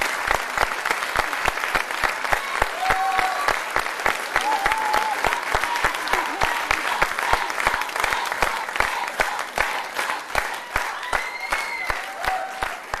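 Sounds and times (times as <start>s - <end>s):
audience clapping in rhythm: 0.0s - 13.0s.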